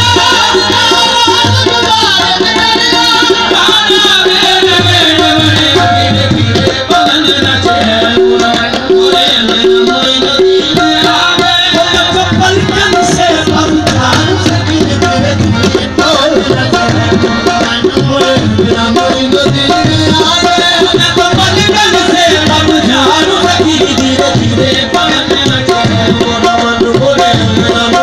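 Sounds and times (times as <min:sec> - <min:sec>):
harmonium notes: 0:00.0 - 0:28.0
tabla drumming: 0:00.0 - 0:28.0.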